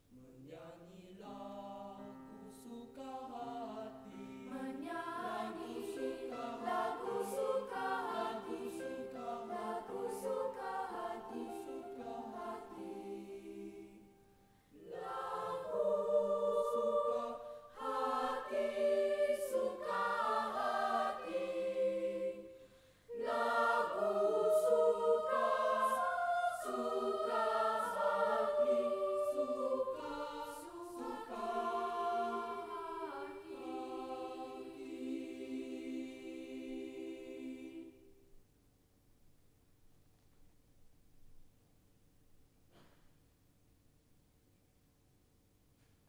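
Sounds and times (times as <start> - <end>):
choir singing in chords: 0.1 - 38.3.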